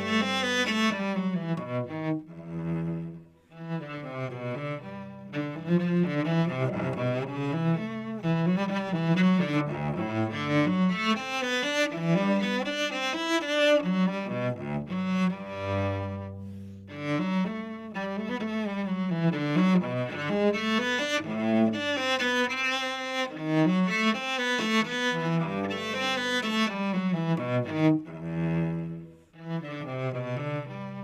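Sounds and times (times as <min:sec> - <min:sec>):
bowed cello: 0:00.0 - 0:31.0.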